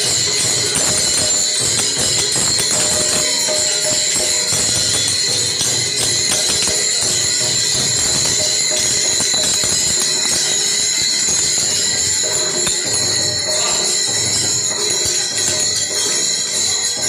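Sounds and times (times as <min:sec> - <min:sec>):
hand cymbals clashing: 0:00.0 - 0:17.0.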